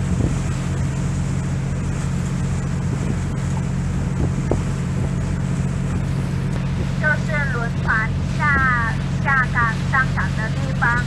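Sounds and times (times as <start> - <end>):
boat engine humming: 0.0 - 11.0
water and wind rushing: 0.0 - 11.0.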